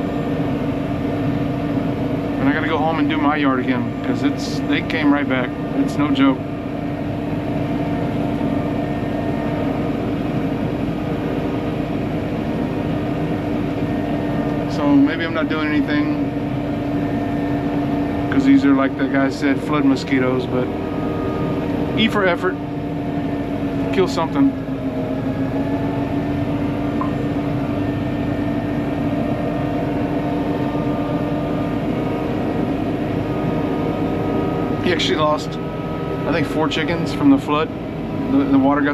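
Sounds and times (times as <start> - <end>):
fogger engine droning: 0.0 - 38.9.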